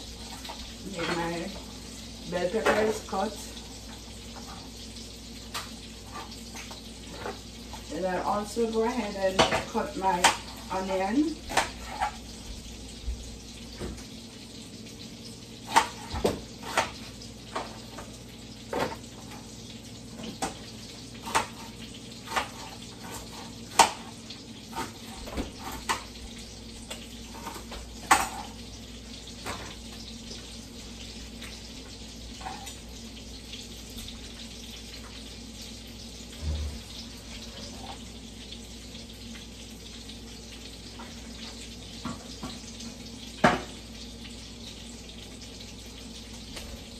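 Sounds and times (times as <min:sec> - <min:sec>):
sausage sizzling in skillet: 0:00.0 - 0:46.9.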